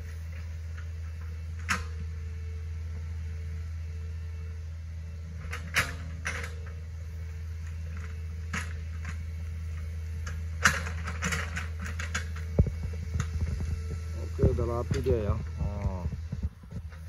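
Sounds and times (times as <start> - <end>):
excavator engine droning: 0.0 - 17.0.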